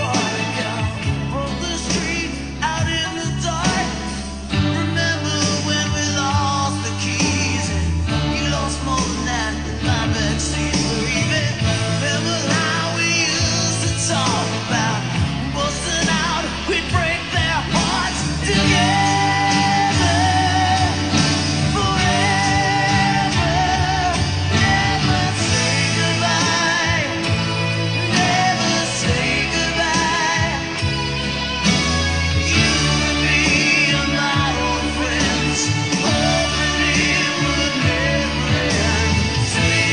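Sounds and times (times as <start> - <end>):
bass line: 0.0 - 39.9
person singing with vibrato: 0.0 - 39.9
twelve-string guitar: 0.0 - 39.9.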